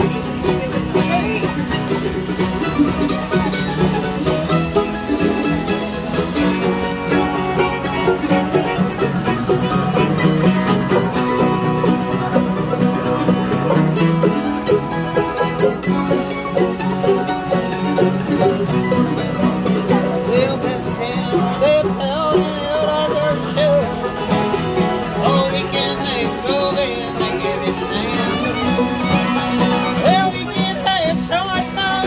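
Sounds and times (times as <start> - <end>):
bluegrass band playing: 0.0 - 32.0.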